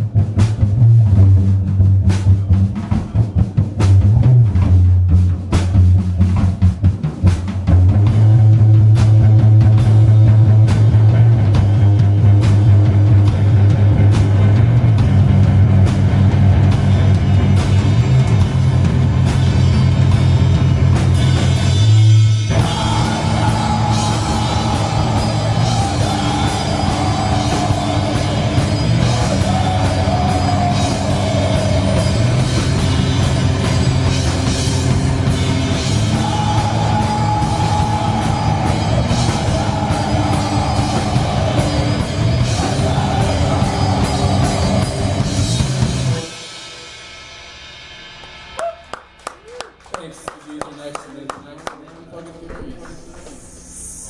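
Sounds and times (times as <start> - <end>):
heavy metal band playing live: 0.0 - 48.6
drum kit: 0.0 - 50.6.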